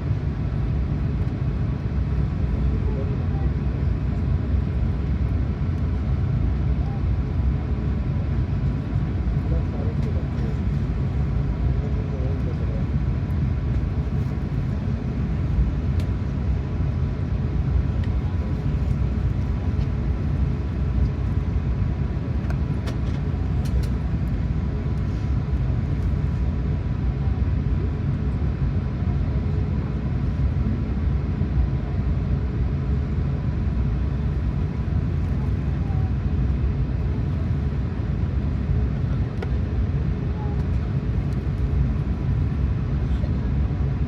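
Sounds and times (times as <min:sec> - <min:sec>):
aircraft cabin engine rumble: 0:00.0 - 0:44.0.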